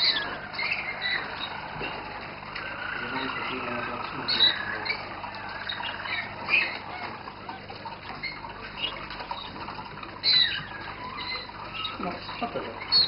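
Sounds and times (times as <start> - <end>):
canaries singing: 0.0 - 13.0.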